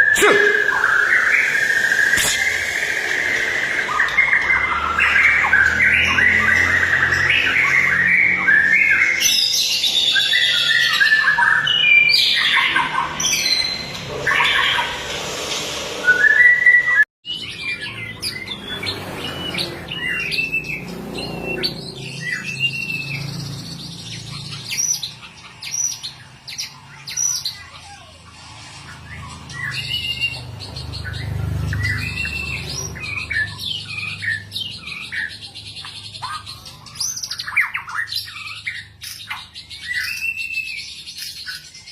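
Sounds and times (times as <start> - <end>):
bird singing whistles and chirps: 0.0 - 15.1, 16.0 - 28.1, 29.1 - 41.9.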